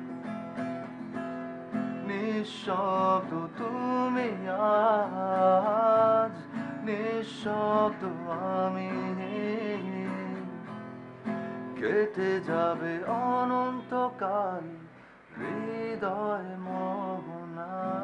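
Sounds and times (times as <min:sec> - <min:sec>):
acoustic guitar strumming: 0:00.0 - 0:18.0
man singing: 0:02.0 - 0:10.7, 0:11.8 - 0:18.0.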